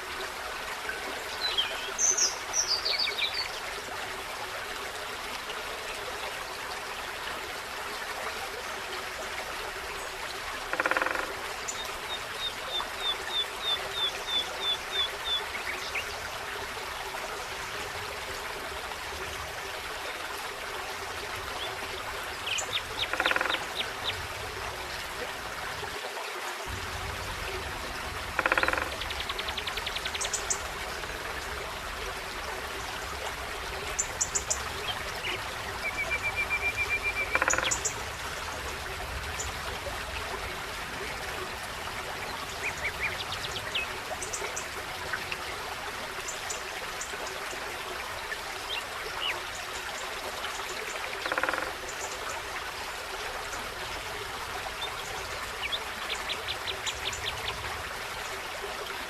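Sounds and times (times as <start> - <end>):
forest stream running: 0.0 - 59.0.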